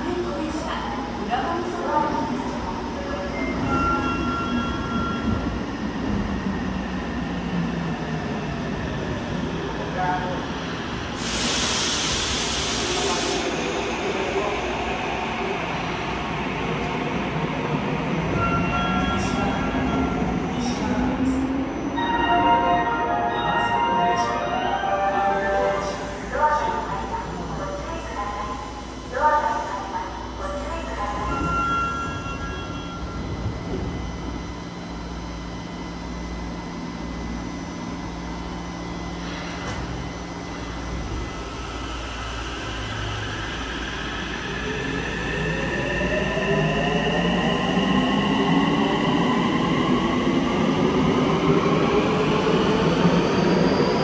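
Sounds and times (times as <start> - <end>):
subway train pulling in: 0.0 - 54.0.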